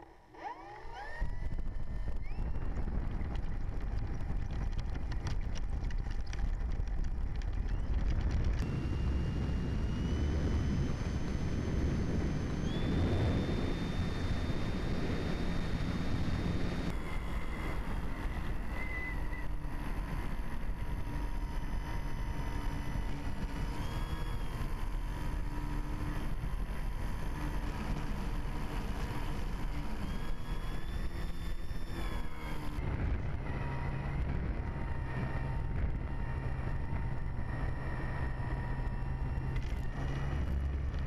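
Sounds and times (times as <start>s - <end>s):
electric motor propeller whine: 0.0s - 41.0s
wind rush on microphone: 1.1s - 41.0s.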